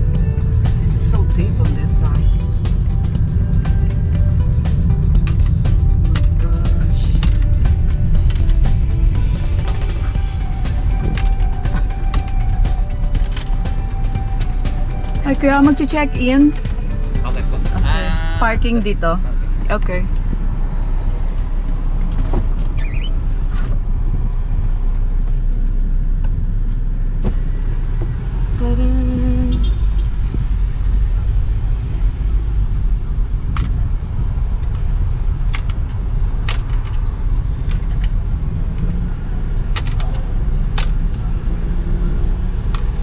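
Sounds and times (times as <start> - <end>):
car cabin engine and tyre rumble: 0.0 - 43.0.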